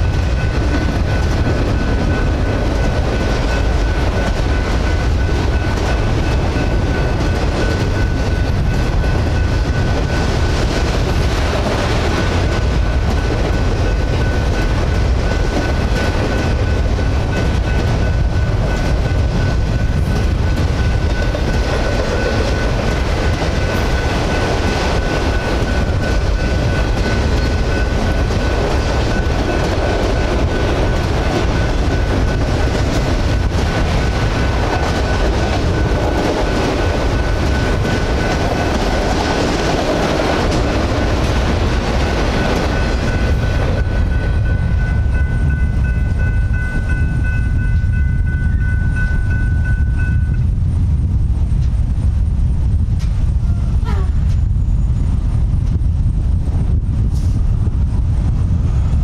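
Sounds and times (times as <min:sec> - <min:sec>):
steel wheels clattering on rails: 0:00.0 - 0:51.9
deep rumble of freight cars: 0:00.0 - 0:59.0.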